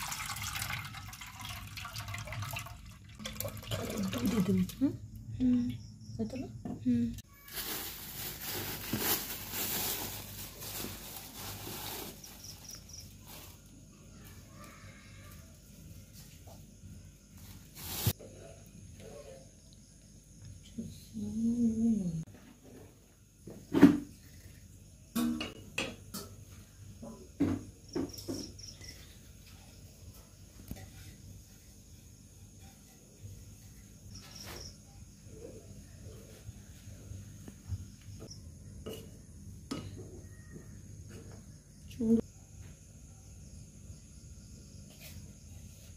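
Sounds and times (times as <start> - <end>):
crickets chirping: 0.1 - 45.9.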